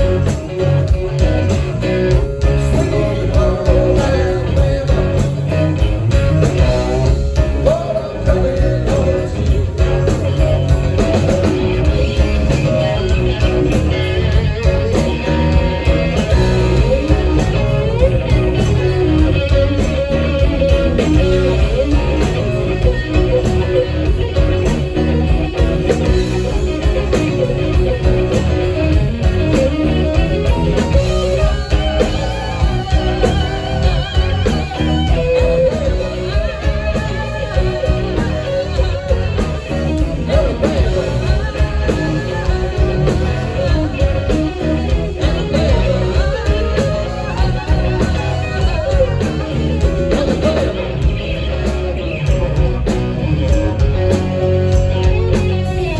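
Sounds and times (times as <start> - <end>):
blues rock band playing: 0.0 - 55.9.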